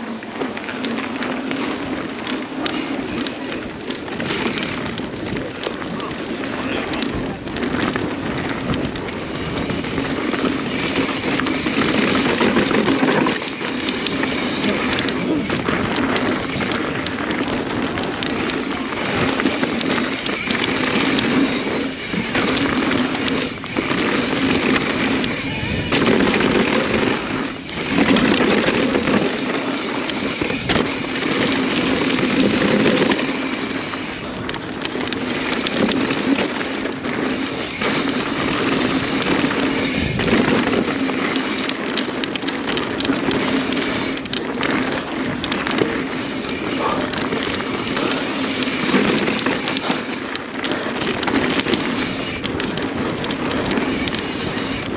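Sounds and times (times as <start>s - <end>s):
bike rattling over bumps: 0.0s - 54.9s
bike tyres on dirt: 0.0s - 54.9s
wind rushing over microphone: 1.7s - 54.9s.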